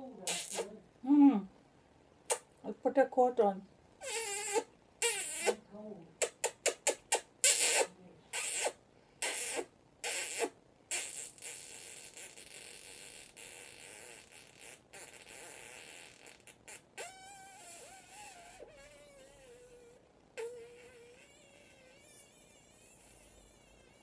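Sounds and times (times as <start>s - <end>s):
low hiss: 0.0s - 24.0s
kissing smacks: 0.2s - 0.8s, 2.3s - 2.5s, 4.0s - 5.6s, 6.2s - 24.0s.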